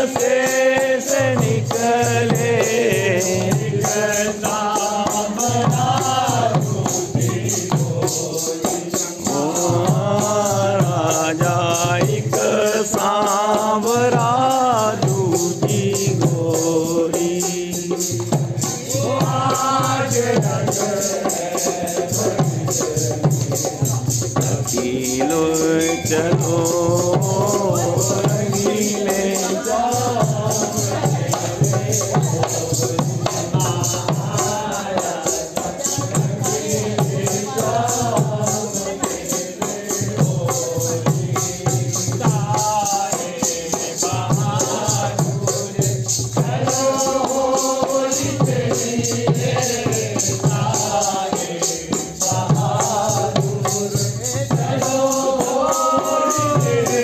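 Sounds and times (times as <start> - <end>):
group devotional singing: 0.0 - 57.0
percussion beat: 0.0 - 57.0.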